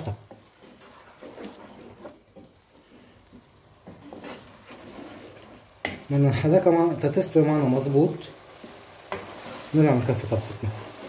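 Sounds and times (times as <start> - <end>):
meat sizzling: 0.0 - 11.0
wooden spoon scraping a pan: 0.0 - 11.0.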